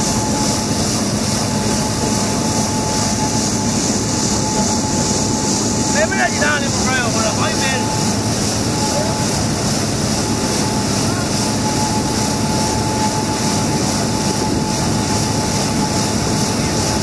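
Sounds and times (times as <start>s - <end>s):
faint machine whine: 0.0s - 17.0s
potato washing machine running: 0.0s - 17.0s
water sprays: 0.0s - 17.0s.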